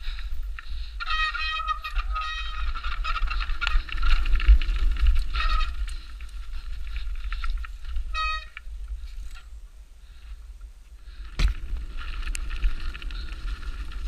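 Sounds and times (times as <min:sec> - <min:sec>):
bike rattling over ground: 0:00.0 - 0:09.7, 0:11.0 - 0:14.0
wind rumble on microphone: 0:00.0 - 0:14.0.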